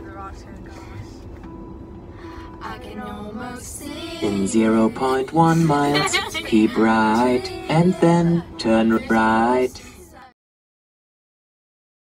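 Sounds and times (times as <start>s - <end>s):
faint music: 0.0s - 10.3s.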